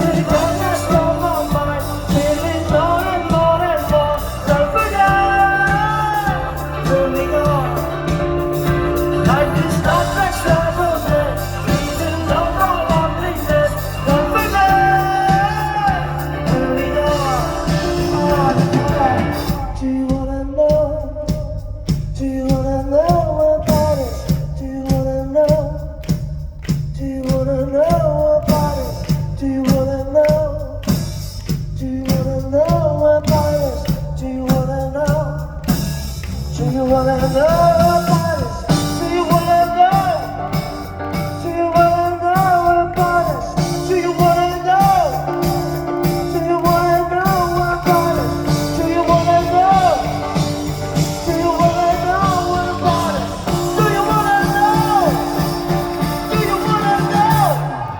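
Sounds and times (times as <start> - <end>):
person singing: 0.0 - 26.2, 36.5 - 57.9
live rock-pop band: 0.0 - 57.9.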